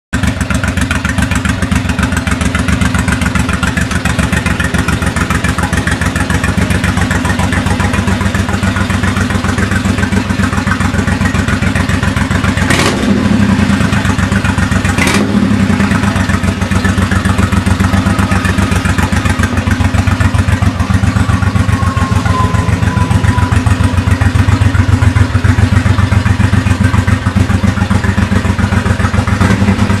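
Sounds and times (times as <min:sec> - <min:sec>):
motorcycle engine idling: 0:00.2 - 0:30.0.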